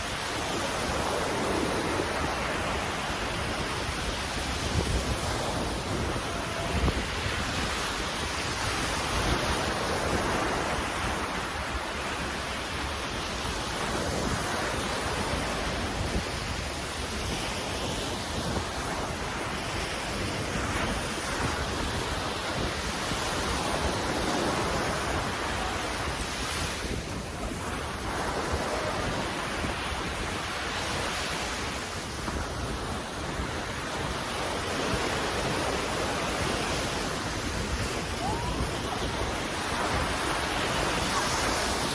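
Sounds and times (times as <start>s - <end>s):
waves washing in and out: 0.0s - 41.9s
wind buffeting microphone: 0.0s - 41.9s.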